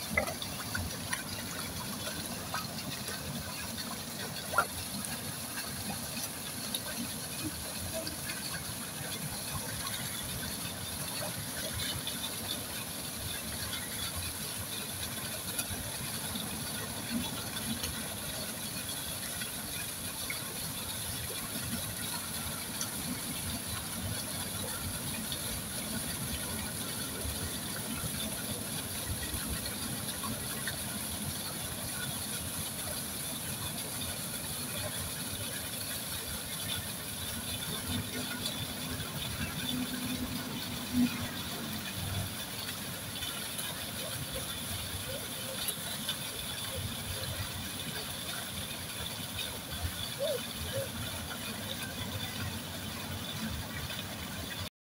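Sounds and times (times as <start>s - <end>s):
fish splashing and slurping: 0.0s - 54.7s.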